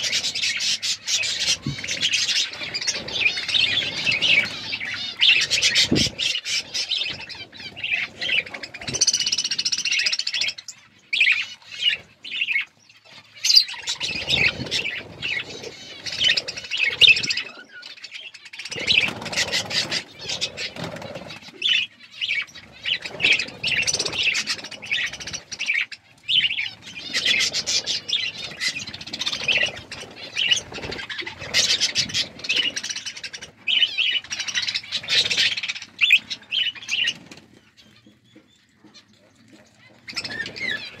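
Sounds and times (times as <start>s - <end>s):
budgerigars chirping and warbling: 0.0s - 41.0s.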